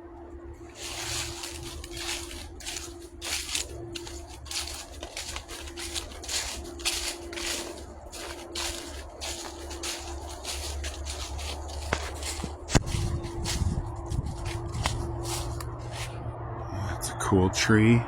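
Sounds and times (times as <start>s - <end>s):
footsteps on dry trail: 0.6s - 16.2s.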